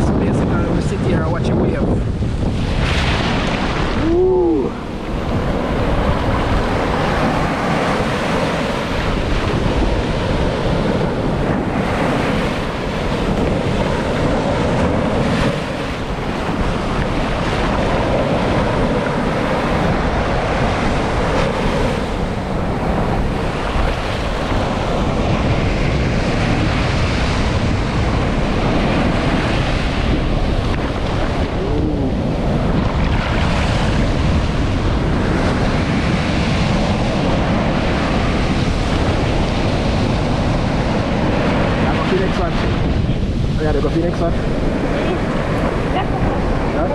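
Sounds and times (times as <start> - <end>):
ocean surf breaking: 0.0 - 46.9
wind buffeting microphone: 0.0 - 46.9.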